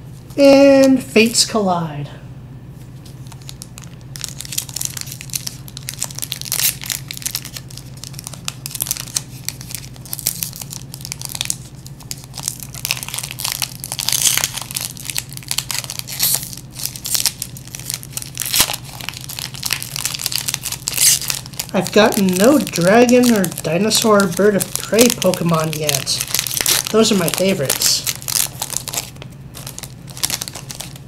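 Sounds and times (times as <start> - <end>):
steady low hum: 0.0 - 31.0
foil wrapper crinkling and tearing: 3.2 - 31.0.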